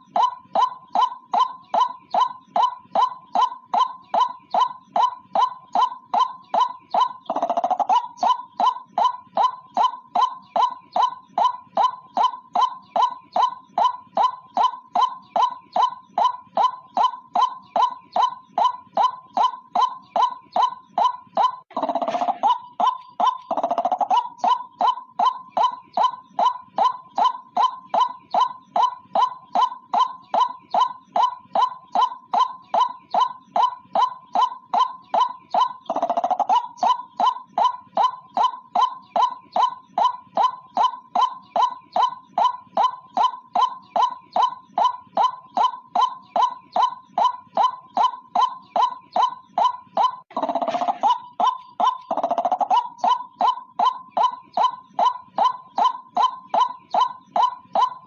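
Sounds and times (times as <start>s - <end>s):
waterhen call: 0.0s - 58.0s.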